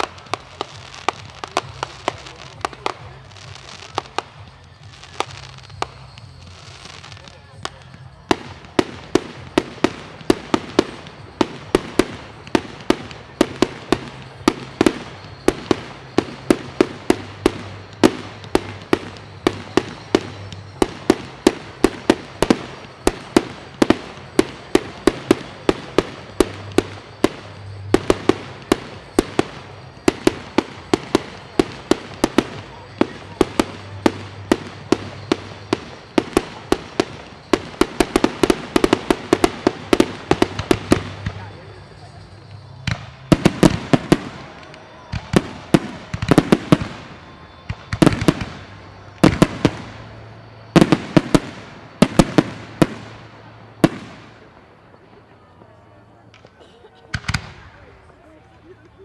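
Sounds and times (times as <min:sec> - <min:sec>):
fireworks bursting with sharp bangs: 0:00.0 - 0:59.0.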